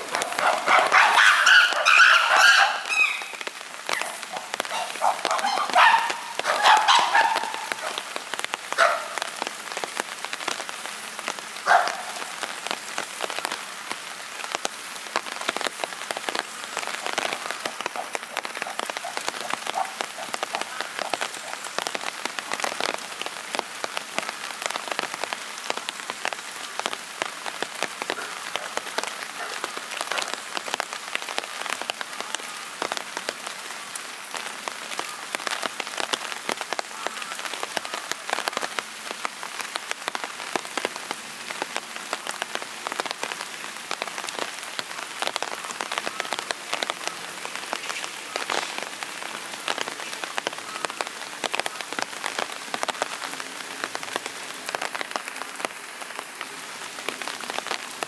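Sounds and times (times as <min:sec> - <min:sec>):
rain drops ticking on hard surface: 0:00.0 - 0:58.0.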